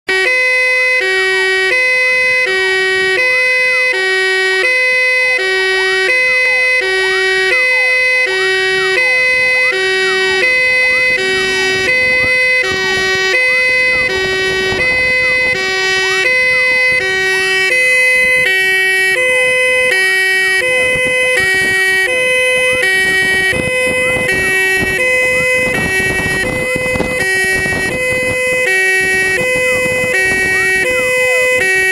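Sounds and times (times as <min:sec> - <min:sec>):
two-tone hi-lo siren: 0:00.1 - 0:31.9
vehicle engine and road noise: 0:00.1 - 0:31.9
wailing siren: 0:00.1 - 0:31.9.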